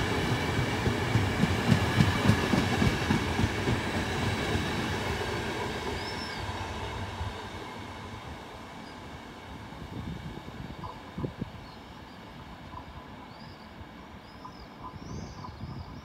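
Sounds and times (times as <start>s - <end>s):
train wheels rumbling over rails: 0.0s - 13.3s.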